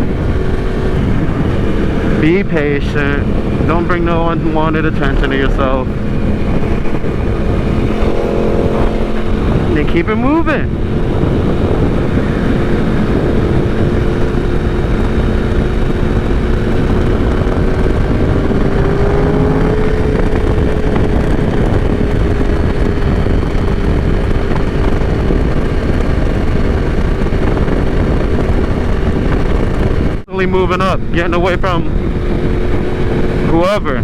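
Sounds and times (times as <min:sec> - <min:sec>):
motorcycle engine cruising: 0:00.0 - 0:34.0
wind rush on microphone: 0:00.0 - 0:34.0.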